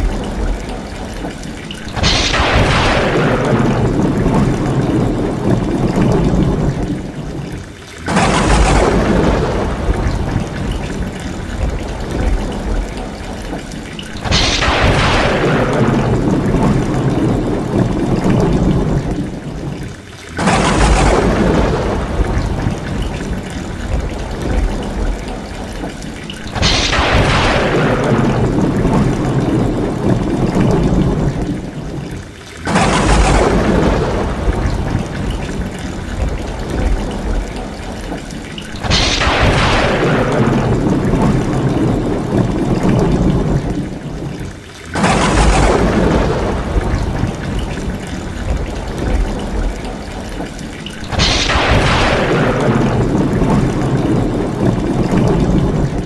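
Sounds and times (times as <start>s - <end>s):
thunder crashing and rumbling: 0.0s - 25.8s, 26.4s - 38.0s, 38.6s - 56.0s
heavy rain pouring off roof: 0.0s - 56.0s.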